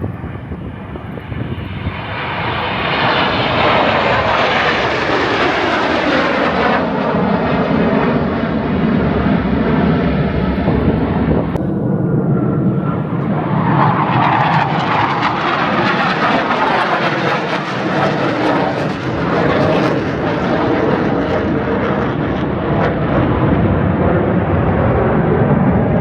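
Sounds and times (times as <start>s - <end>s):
airplane engine roar passing: 0.0s - 26.0s.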